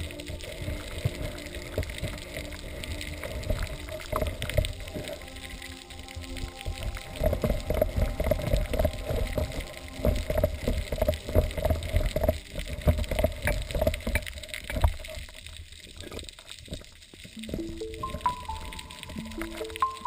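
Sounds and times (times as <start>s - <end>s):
low underwater rumble: 0.0s - 15.7s, 16.6s - 20.0s.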